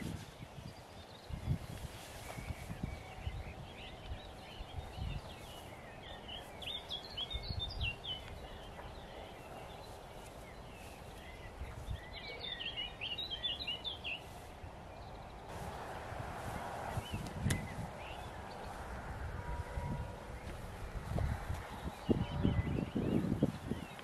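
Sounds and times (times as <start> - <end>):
outdoor background noise: 0.0 - 24.0
songbird twittering: 0.1 - 15.5, 16.9 - 18.9, 20.2 - 24.0.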